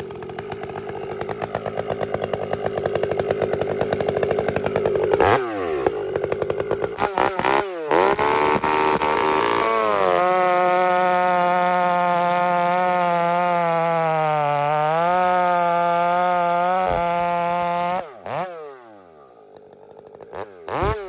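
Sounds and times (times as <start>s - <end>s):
chainsaw cutting: 0.0s - 21.0s.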